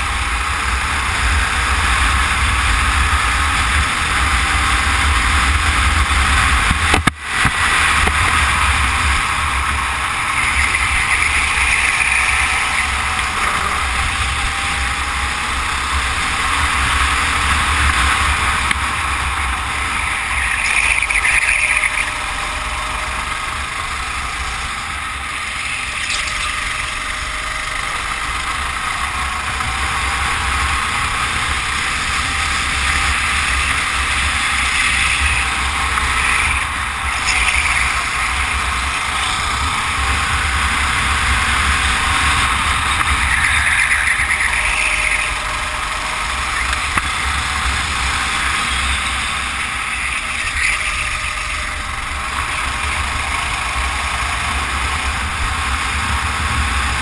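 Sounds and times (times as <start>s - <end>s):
kart engine running: 0.0s - 57.0s
wind rumbling on microphone: 0.0s - 57.0s.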